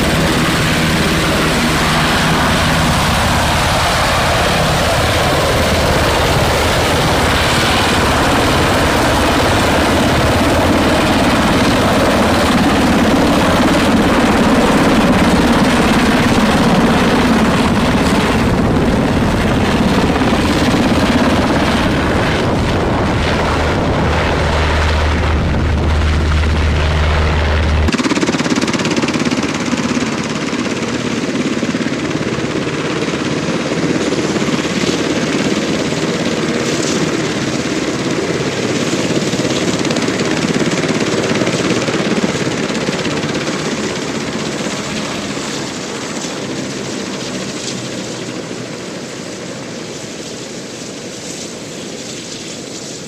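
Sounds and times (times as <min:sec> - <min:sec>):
helicopter flying low overhead: 0:00.0 - 0:53.0
helicopter rotors turning on ground: 0:00.0 - 0:53.0.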